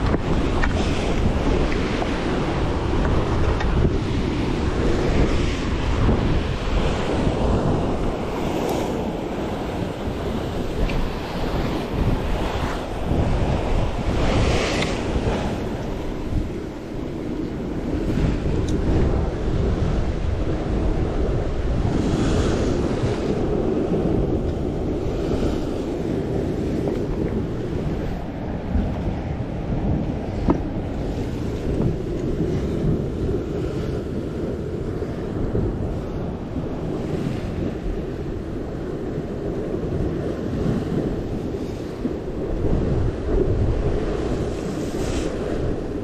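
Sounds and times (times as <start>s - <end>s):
waves washing against rocks: 0.0s - 46.0s
wind buffeting microphone: 0.0s - 46.0s.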